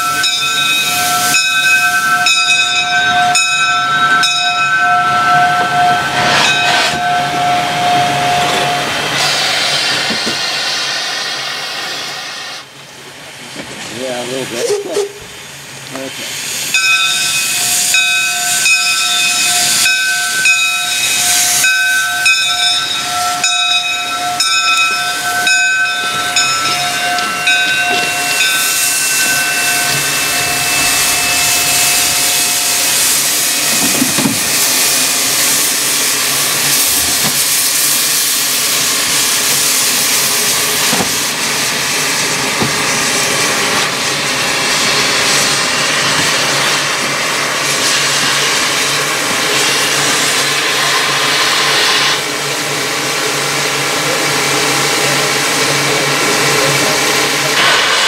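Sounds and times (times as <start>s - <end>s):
steam hissing: 0.0s - 58.0s.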